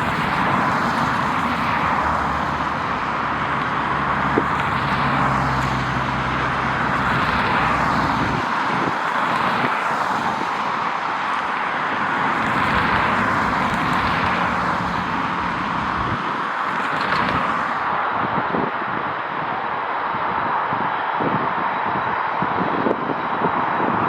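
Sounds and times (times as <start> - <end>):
rushing vehicle noise: 0.0 - 24.0.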